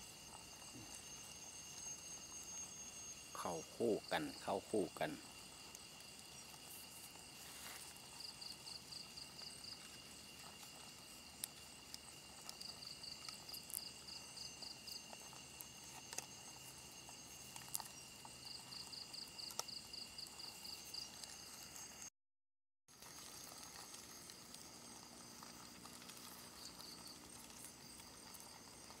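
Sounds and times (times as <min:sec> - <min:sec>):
insect high trill: 0:00.0 - 0:22.1, 0:23.0 - 0:29.0
rapid pulsed insect chirping: 0:00.0 - 0:22.1, 0:23.0 - 0:29.0.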